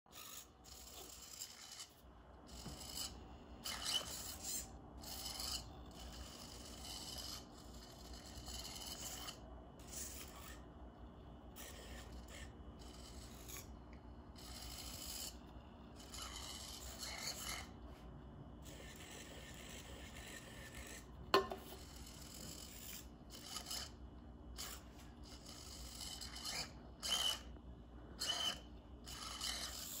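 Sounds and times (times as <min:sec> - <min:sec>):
small servos whirring: 0:00.1 - 0:30.0.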